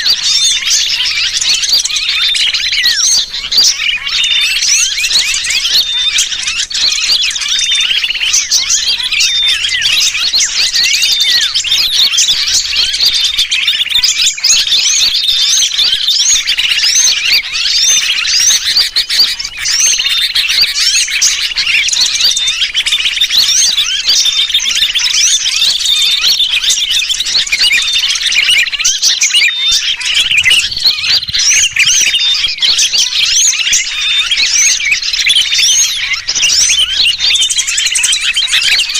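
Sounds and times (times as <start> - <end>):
bird distress calls: 0.0 - 38.9
small birds chirping: 0.0 - 38.9
whistled bird notes: 0.0 - 38.9.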